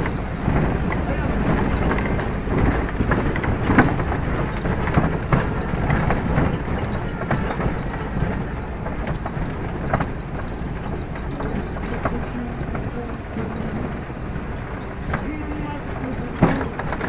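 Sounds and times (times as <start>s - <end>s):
bus body rattling: 0.0s - 17.0s
bus engine and road rumble: 0.0s - 17.0s.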